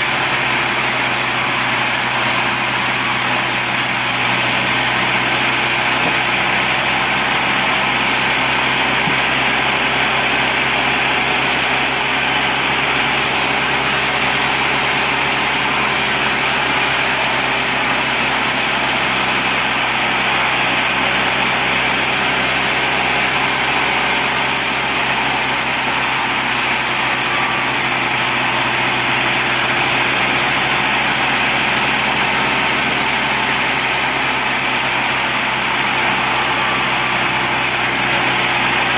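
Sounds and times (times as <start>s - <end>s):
band saw humming and hissing: 0.0s - 38.9s.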